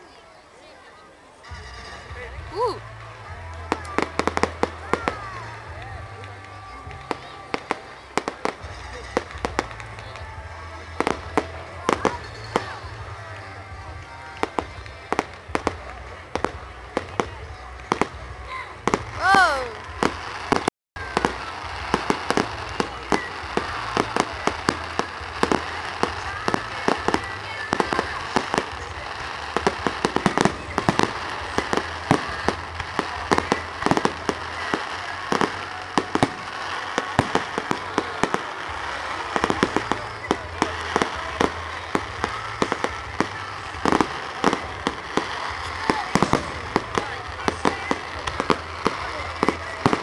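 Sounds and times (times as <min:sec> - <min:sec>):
crowd murmuring: 0:00.0 - 0:50.0
fireworks bangs and crackling: 0:01.5 - 0:50.0.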